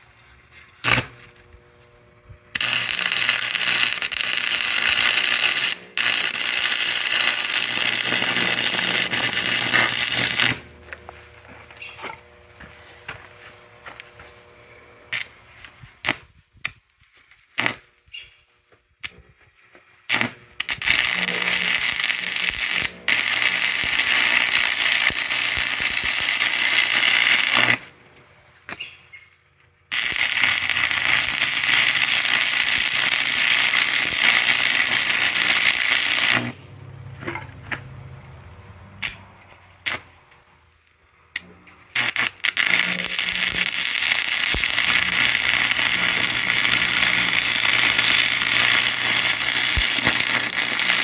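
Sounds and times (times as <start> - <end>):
arc welding sizzling hiss: 0.0 - 18.4, 19.0 - 51.0.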